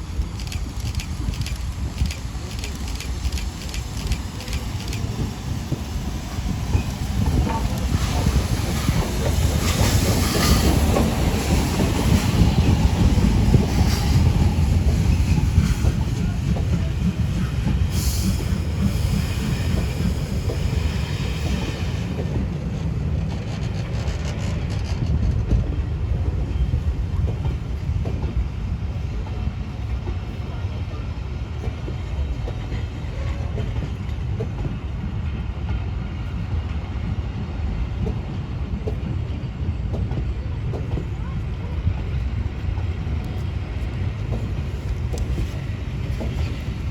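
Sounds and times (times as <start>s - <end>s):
rail noise: 0.0s - 46.9s
train rumble: 0.0s - 46.9s.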